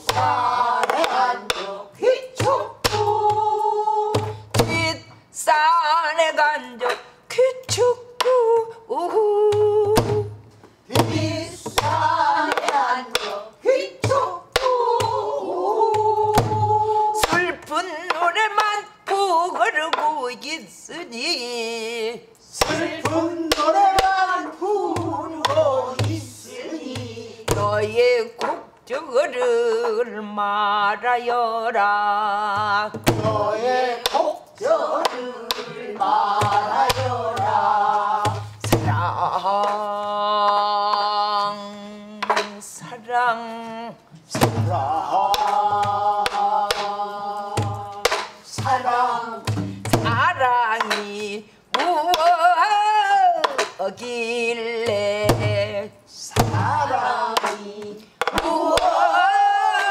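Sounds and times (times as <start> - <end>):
woman singing folk song: 0.0 - 35.9, 38.1 - 59.9.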